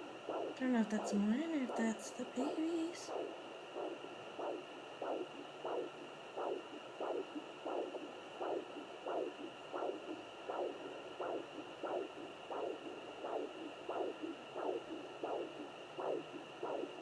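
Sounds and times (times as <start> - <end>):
doppler pulse whooshing beats: 0.0 - 17.0
steady hiss: 0.0 - 17.0.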